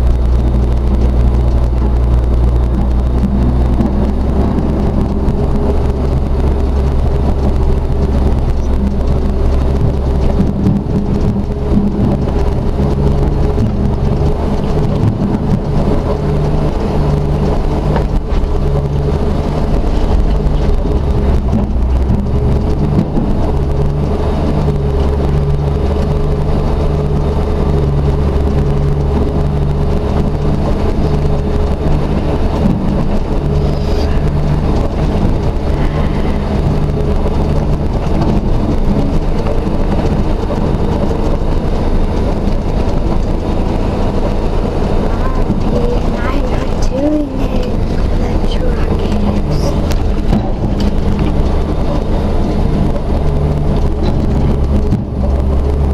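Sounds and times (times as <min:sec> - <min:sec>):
truck engine drone: 0:00.0 - 0:55.9.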